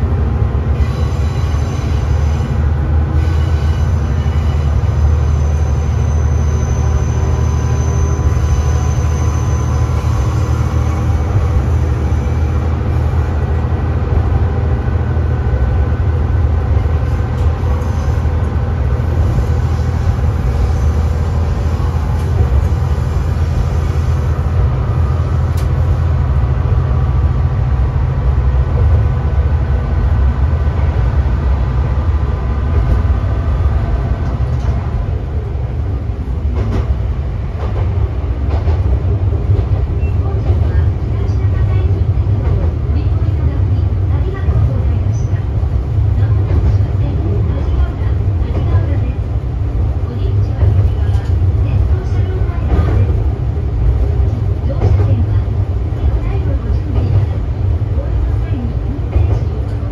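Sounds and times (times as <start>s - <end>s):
railcar engine drone and rumble: 0.0s - 59.9s.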